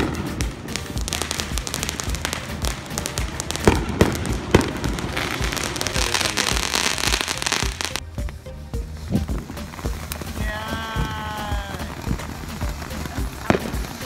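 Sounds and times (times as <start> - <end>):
crackling hiss of sparks: 0.0 - 8.0, 8.8 - 14.0
firework bangs: 0.0 - 8.0, 9.0 - 14.0
low music beat: 0.0 - 14.0.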